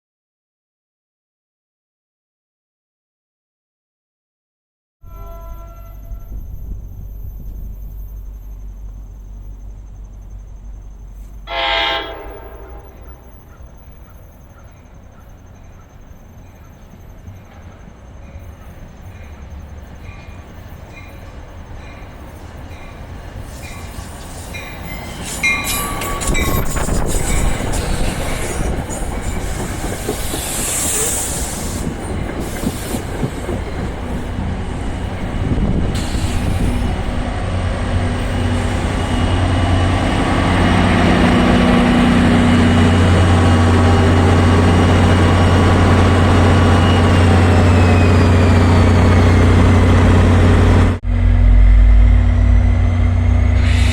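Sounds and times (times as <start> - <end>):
train wheels rolling and squealing: 5.1 - 53.9
locomotive low hum: 5.4 - 11.5, 12.2 - 53.9.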